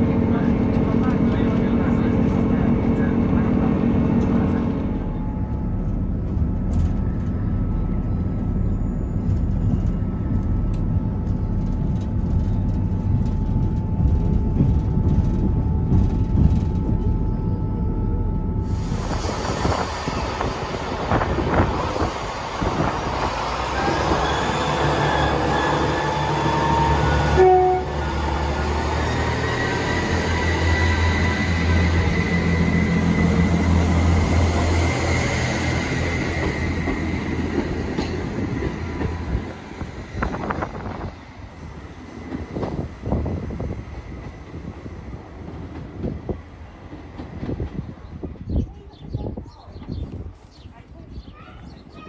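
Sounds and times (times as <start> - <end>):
train engine humming: 0.0 - 52.0.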